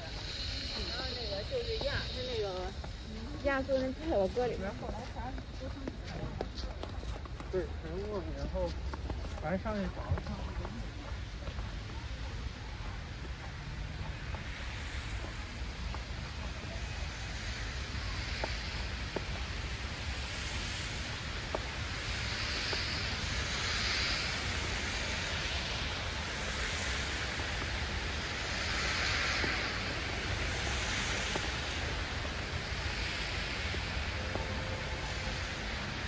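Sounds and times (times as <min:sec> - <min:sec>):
outdoor rushing noise: 0:00.0 - 0:36.0.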